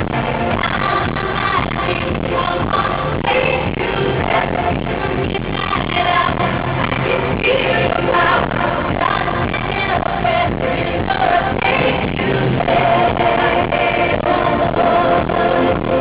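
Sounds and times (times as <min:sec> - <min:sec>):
pop music with singing: 0:00.0 - 0:16.0.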